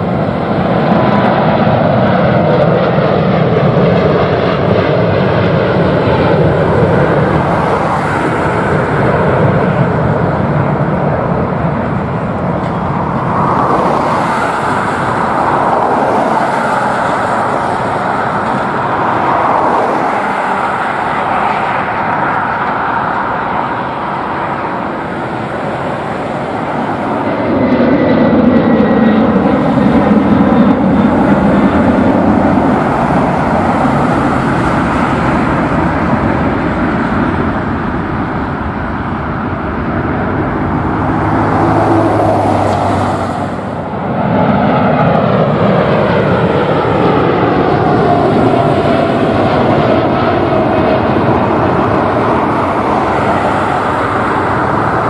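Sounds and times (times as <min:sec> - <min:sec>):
departing jet low roar: 0:00.0 - 0:55.0
jet engines at takeoff thrust: 0:00.0 - 0:55.0.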